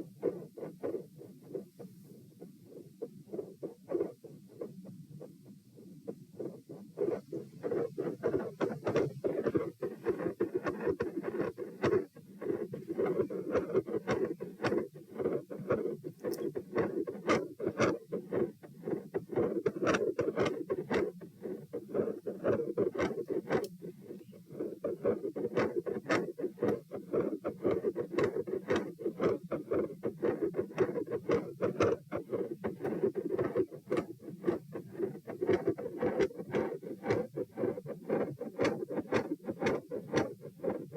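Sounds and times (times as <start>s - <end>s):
fast heartbeat: 0.0s - 40.9s.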